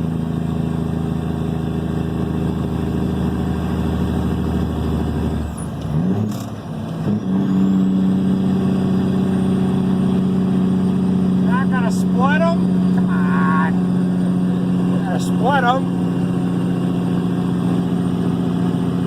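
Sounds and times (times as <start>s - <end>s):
diesel truck engine pulling: 0.0s - 19.0s.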